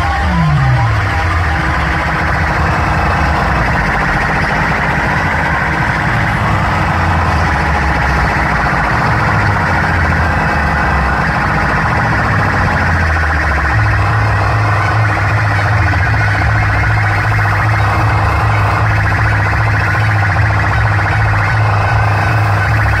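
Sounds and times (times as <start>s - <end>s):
loud dj music with heavy bass: 0.0s - 23.0s.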